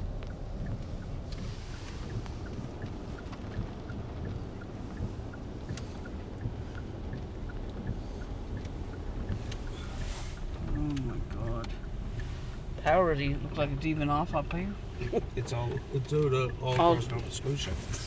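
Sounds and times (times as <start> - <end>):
car driving rumble inside cabin: 0.0 - 18.0
faint ticks: 0.0 - 18.0.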